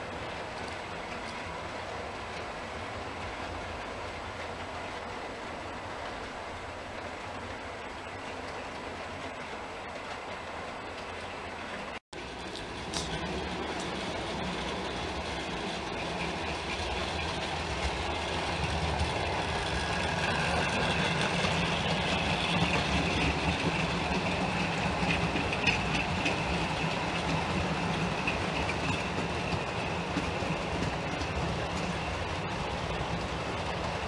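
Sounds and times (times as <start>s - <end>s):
model train wheels whirring on rail: 0.0s - 34.0s.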